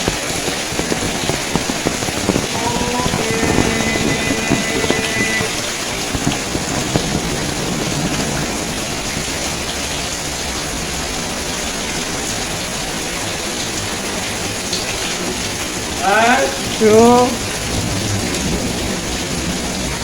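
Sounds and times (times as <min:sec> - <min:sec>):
rain splashing on surfaces: 0:00.0 - 0:20.0.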